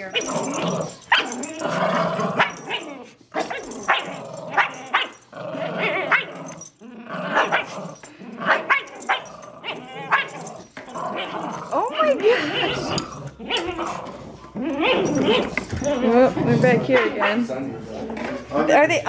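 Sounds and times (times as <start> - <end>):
dogs barking and yipping: 0.0 - 17.6
small dogs growling: 0.0 - 18.8.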